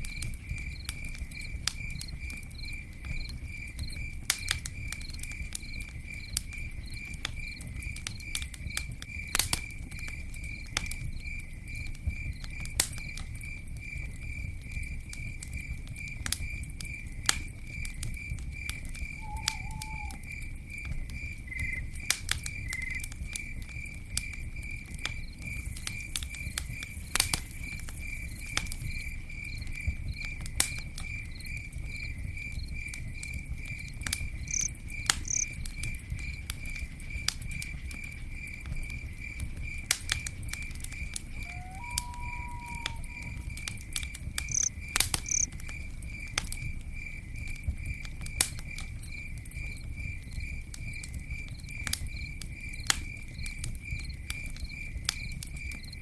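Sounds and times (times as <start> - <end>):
campfire crackling and popping: 0.0 - 56.0
cricket chirping: 0.0 - 56.0.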